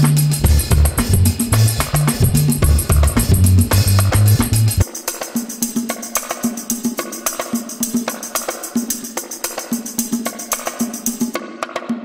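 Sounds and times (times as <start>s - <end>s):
music with fast percussive beat: 0.0s - 12.0s.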